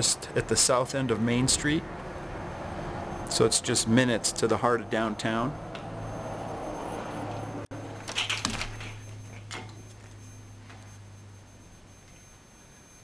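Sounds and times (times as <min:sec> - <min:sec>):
outdoor ambience with low hum: 0:00.0 - 0:13.0.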